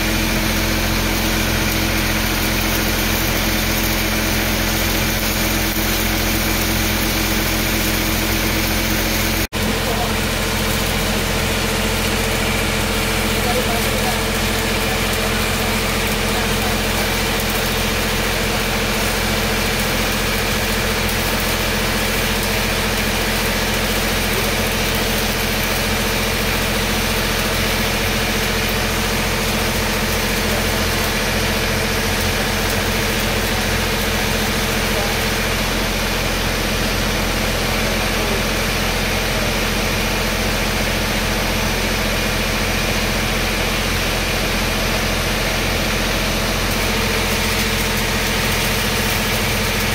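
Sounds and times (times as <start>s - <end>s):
steady engine drone: 0.0s - 49.9s
welding arc hissing and crackling: 0.0s - 49.9s.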